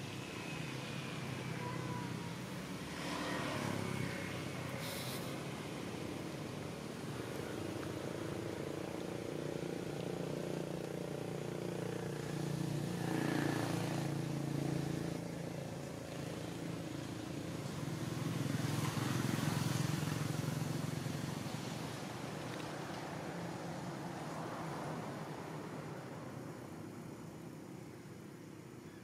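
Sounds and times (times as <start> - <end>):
passing traffic: 0.0 - 29.0.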